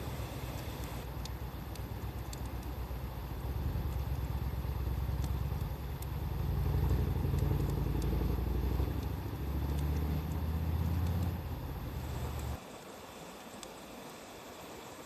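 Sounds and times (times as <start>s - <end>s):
bonfire crackling and popping: 0.0s - 12.6s.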